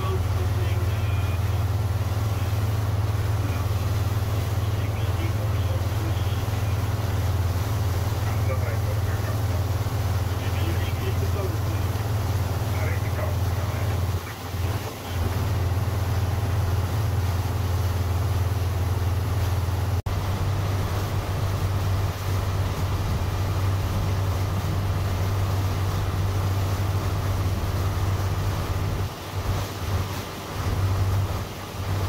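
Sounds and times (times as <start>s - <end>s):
boat engine drone: 0.0s - 32.0s
water hissing: 0.0s - 32.0s
wind: 0.0s - 32.0s.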